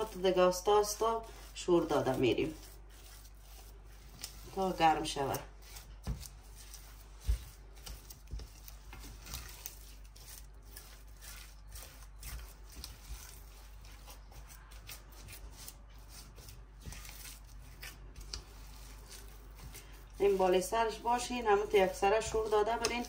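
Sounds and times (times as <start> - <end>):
spatula scraping saucepan: 0.0 - 23.0.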